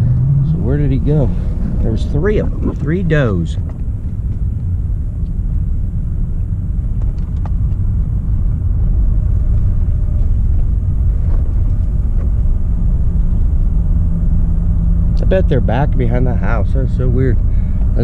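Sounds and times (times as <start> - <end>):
truck engine and road rumble: 0.0 - 18.0.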